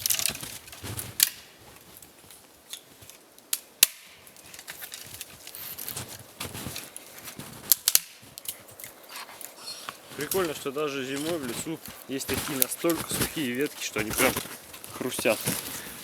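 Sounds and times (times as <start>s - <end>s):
dry twigs snapping: 0.0s - 16.0s.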